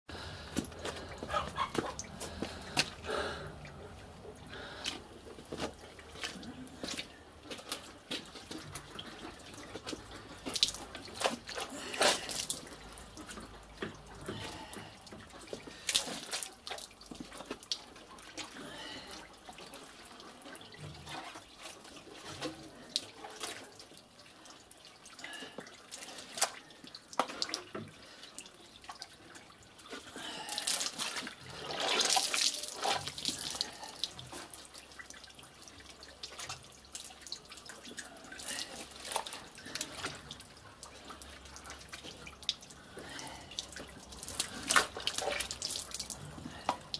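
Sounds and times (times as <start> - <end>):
dripping water: 0.1 - 46.9
wet pulp squelching and splatting: 0.1 - 46.9.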